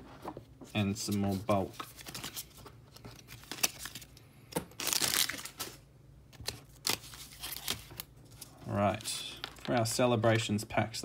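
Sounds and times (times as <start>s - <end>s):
crinkly rustle of cards: 0.8s - 10.6s.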